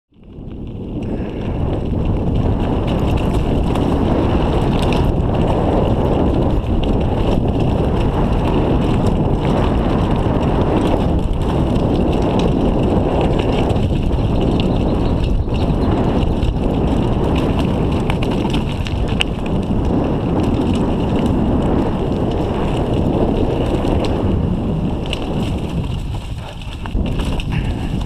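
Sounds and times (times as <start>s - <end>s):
wind rushing over microphone: 0.1s - 28.0s
tyres rolling over loose stones: 0.2s - 28.0s
bike knocking over bumps: 1.1s - 28.0s.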